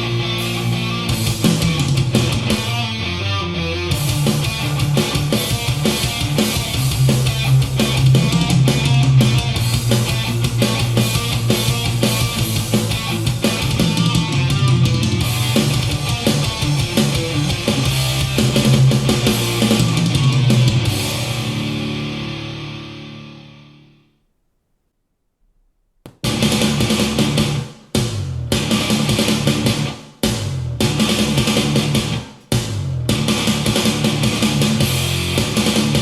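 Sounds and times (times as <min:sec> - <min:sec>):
heavy rock music over loudspeaker: 0:00.0 - 0:23.7, 0:26.3 - 0:36.0.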